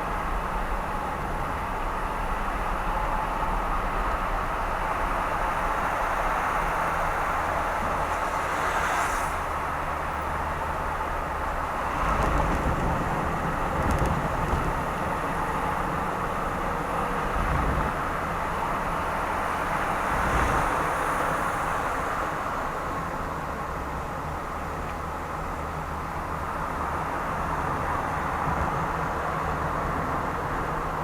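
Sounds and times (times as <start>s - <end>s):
road and tyre noise: 0.0s - 31.0s.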